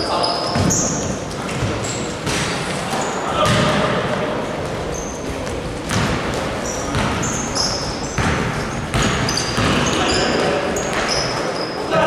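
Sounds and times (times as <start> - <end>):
shoes squeaking on court: 0.0 - 3.6, 4.5 - 11.9
basketballs bouncing on gym floor: 0.2 - 2.8, 3.4 - 11.6.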